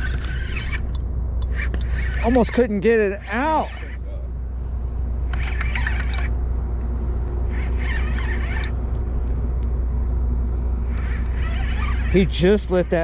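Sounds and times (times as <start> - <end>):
ship engine rumble: 0.0 - 13.0.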